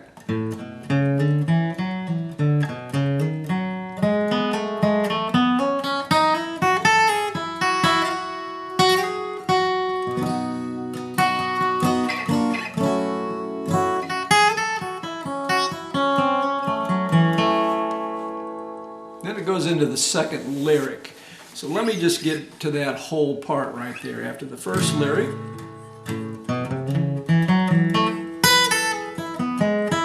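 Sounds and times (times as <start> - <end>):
acoustic guitar picked notes: 0.0 - 22.4, 23.9 - 30.0
guitar strummed chords: 0.1 - 19.5, 24.7 - 30.0.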